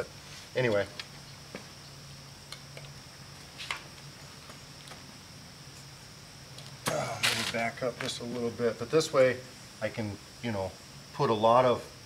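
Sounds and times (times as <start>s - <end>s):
faint low hum: 0.0s - 12.0s
high-pitched insect trill: 0.0s - 12.0s.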